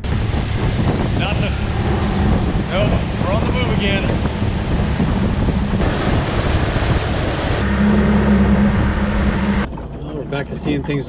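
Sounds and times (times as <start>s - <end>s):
wind on microphone: 0.0s - 10.0s
outboard motor running: 0.0s - 11.0s
water rushing from hull: 0.0s - 11.0s.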